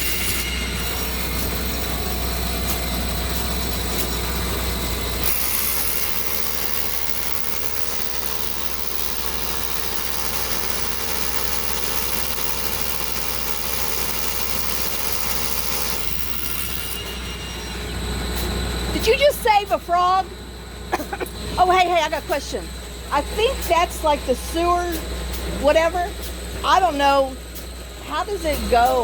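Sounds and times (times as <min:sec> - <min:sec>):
machine drone with low hum: 0:00.0 - 0:29.0.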